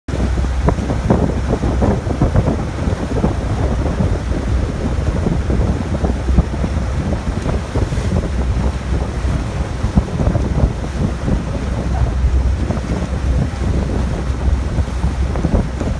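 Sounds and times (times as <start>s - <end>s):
sea water rushing and splashing: 0.1s - 15.9s
steady low rumble: 0.1s - 15.9s
wind buffeting microphone: 0.1s - 15.9s.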